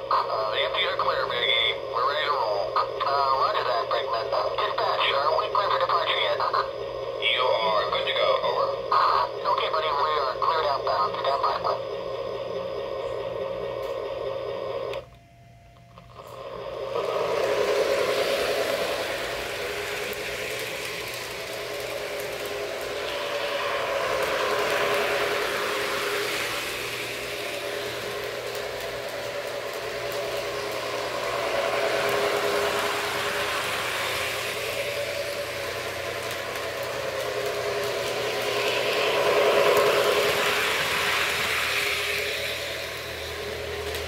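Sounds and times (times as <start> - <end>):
model train running: 0.0 - 15.0, 15.9 - 44.0
wheel noise on rails: 0.0 - 44.0.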